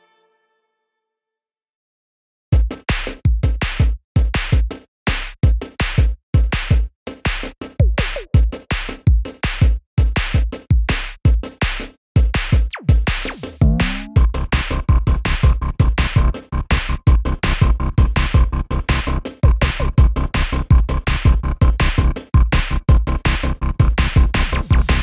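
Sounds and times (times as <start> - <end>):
electronic music with drum-machine beat: 2.6 - 25.0.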